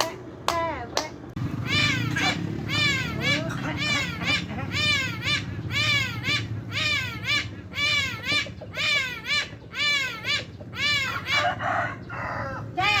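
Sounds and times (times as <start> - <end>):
bird calling: 1.4 - 13.0
harsh rasping bird call: 1.4 - 13.0.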